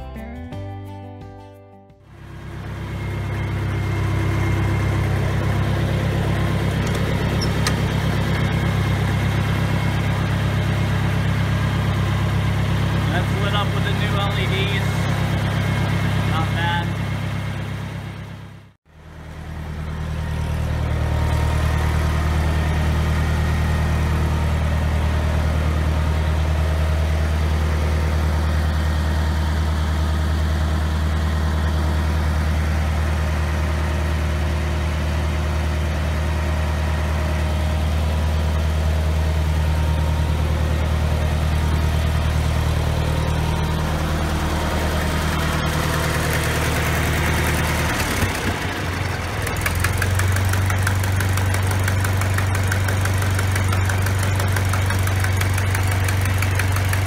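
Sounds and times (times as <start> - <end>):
tractor engine idling: 2.0 - 57.0.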